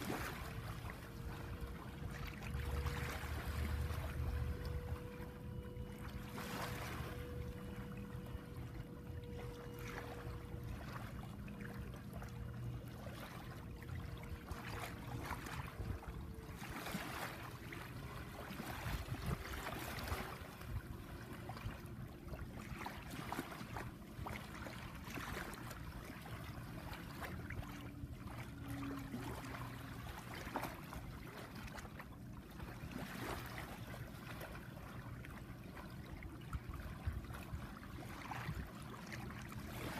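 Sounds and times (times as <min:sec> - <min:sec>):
faint hum: 0:00.0 - 0:39.9
low steady rumble: 0:00.0 - 0:39.9
water lapping over sand: 0:00.0 - 0:39.9.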